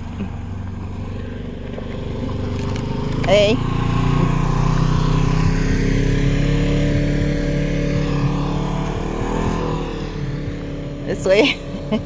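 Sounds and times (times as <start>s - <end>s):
vehicle engine driving past: 0.0s - 12.0s.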